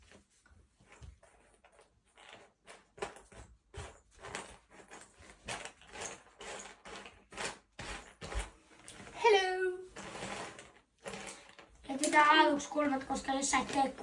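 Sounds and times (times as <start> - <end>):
puzzle pieces shuffling by hand: 0.8 - 14.0.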